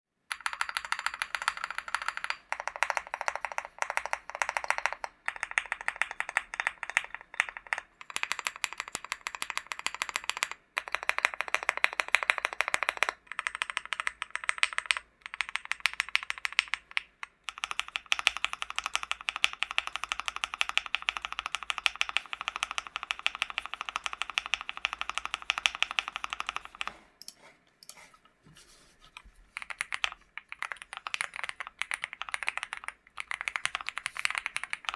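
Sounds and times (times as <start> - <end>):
mechanical keyboard typing: 0.3 - 27.4, 29.5 - 34.9.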